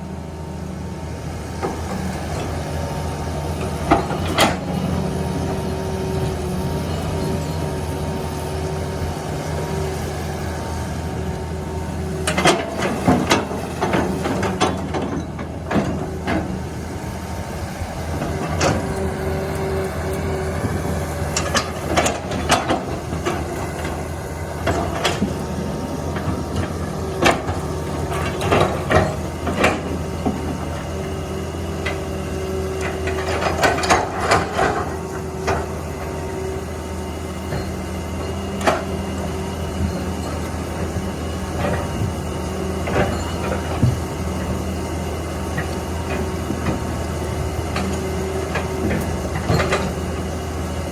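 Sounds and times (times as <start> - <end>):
heavy machine engine running: 0.0 - 50.9.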